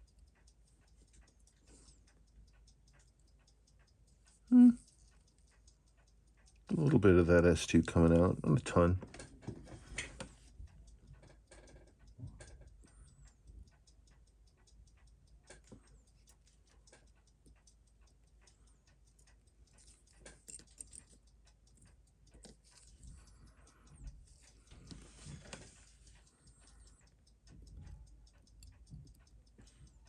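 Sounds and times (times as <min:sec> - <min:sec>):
light clicks of metal tweezers: 0:00.0 - 0:30.0.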